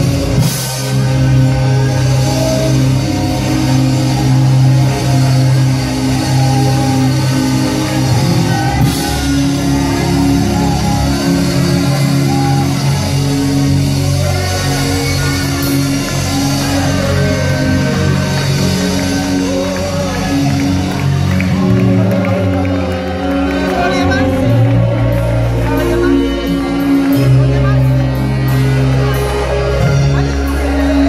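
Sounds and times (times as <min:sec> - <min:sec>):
worship band music: 0:00.0 - 0:31.0.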